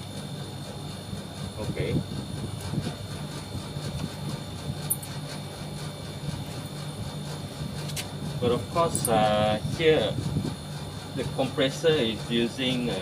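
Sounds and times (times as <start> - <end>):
air conditioner compressor hum: 0.0 - 13.0.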